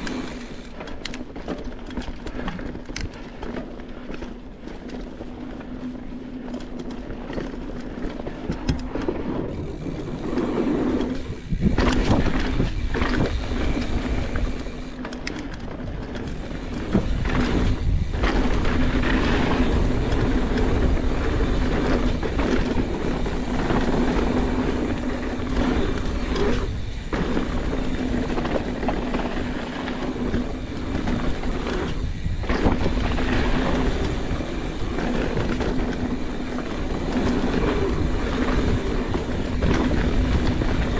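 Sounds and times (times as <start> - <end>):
bike tyres rumbling and rattling: 0.0 - 40.9
wind noise on microphone: 6.6 - 40.9.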